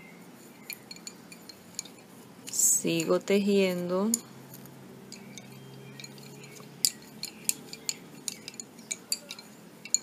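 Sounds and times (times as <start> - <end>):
lace bobbins clicking: 0.4 - 10.0.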